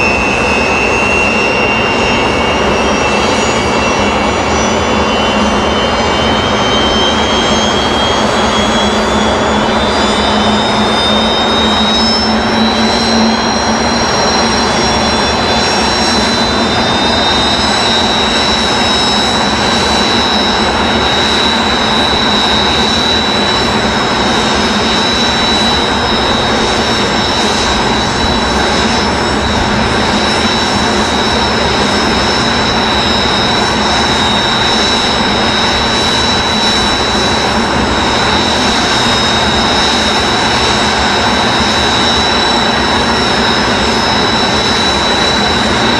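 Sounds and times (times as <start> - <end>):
jet engines roaring and whining: 0.0 - 45.9.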